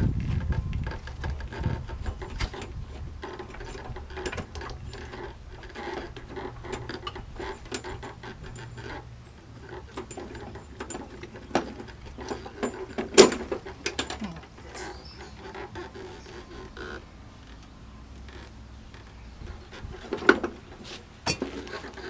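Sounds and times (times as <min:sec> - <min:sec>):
light mechanical clicking and rattling: 0:00.1 - 0:22.0.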